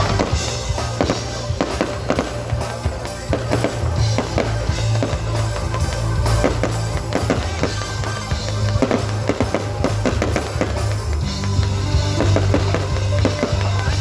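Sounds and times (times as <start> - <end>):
fireworks bangs and crackles: 0.0 - 14.0
loud music with heavy bass: 0.0 - 14.0.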